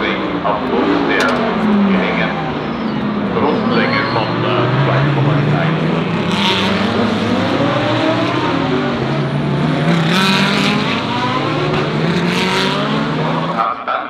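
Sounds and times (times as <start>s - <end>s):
cars passing close by: 0.0s - 13.8s
race car engines revving: 0.0s - 14.0s.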